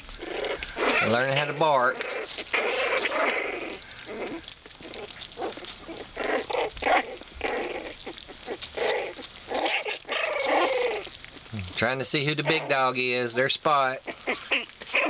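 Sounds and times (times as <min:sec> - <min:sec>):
puppies growling: 0:00.0 - 0:15.0
puppies yipping and barking: 0:00.0 - 0:15.0.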